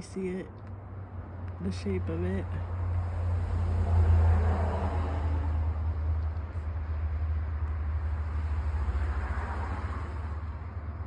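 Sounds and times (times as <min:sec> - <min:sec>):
car low rumble: 0:00.0 - 0:11.0.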